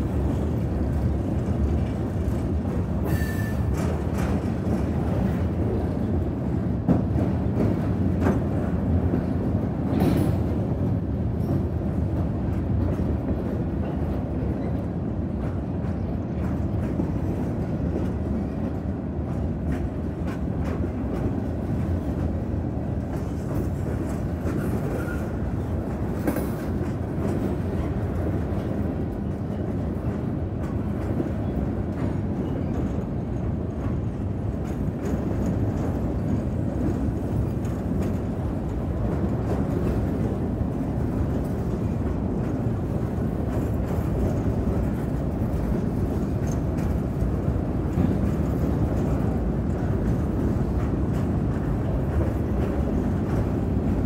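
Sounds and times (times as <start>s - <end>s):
freight cars rolling on rails: 0.0s - 54.0s.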